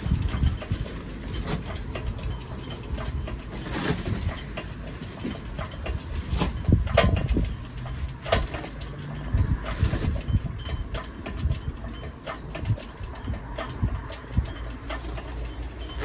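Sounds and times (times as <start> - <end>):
metallic clanks and knocks: 0.0 - 16.0.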